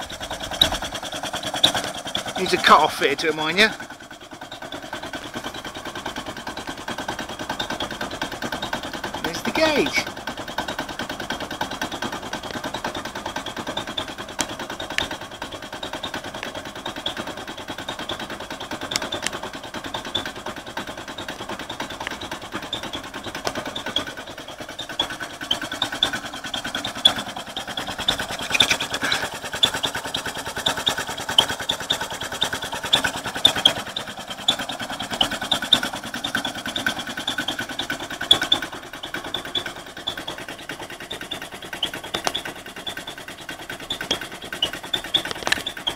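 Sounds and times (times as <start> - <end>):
air compressor pumping: 0.0 - 45.9.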